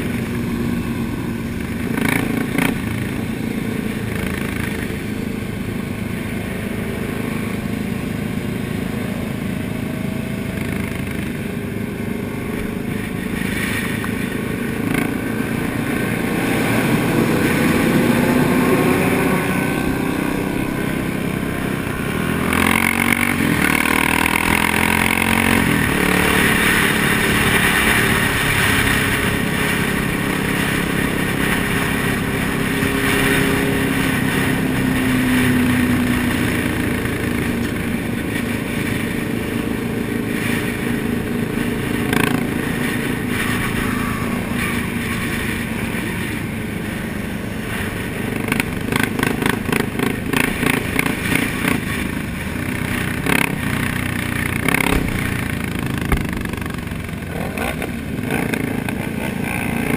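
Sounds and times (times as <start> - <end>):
motorcycle engines running: 0.0 - 59.9.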